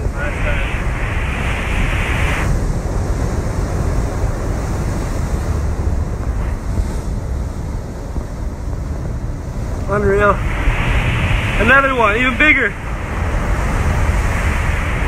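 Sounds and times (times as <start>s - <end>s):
ocean surge churning in sea cave: 0.0s - 15.0s
wind rumble on microphone: 0.0s - 15.0s.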